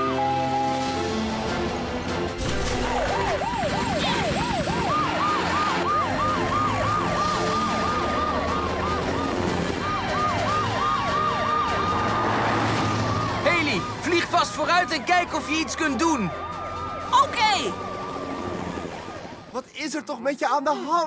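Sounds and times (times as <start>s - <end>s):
higher-pitched siren: 0.0s - 1.3s, 2.6s - 19.5s
emergency sirens wailing: 0.0s - 19.6s.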